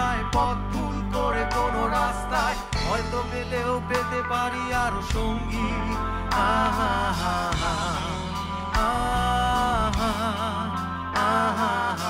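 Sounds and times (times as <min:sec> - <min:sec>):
live band music: 0:00.0 - 0:12.0
man singing with vibrato: 0:00.0 - 0:12.0.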